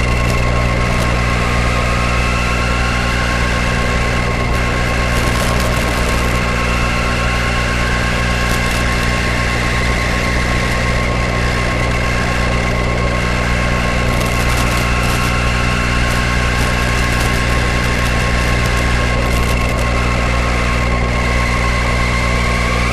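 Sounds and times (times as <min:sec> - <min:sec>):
steady buzzing hum: 0:00.0 - 0:22.9.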